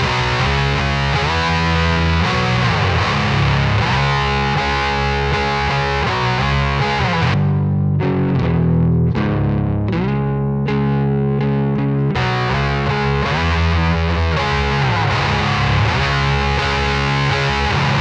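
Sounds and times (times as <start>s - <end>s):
heavy distorted guitar chords: 0.0s - 18.0s.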